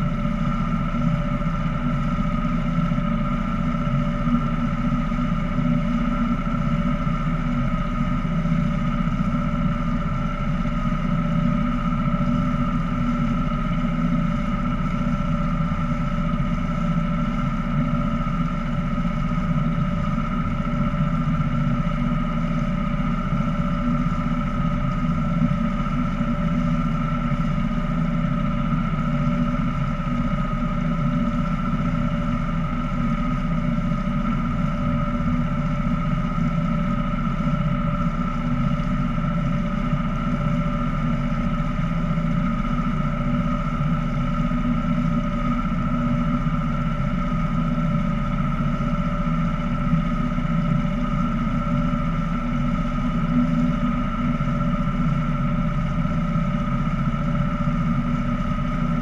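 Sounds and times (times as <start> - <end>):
motorboat engine droning: 0.0 - 59.0.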